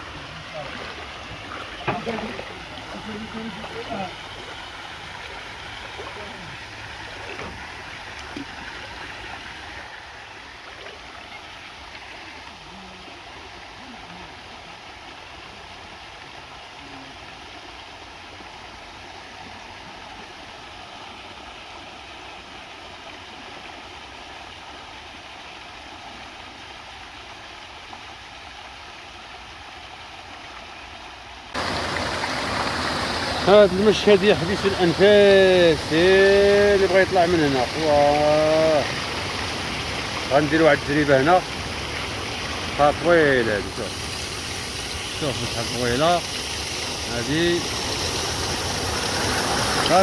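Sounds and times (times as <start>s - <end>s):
flowing water rushing: 0.0s - 50.0s.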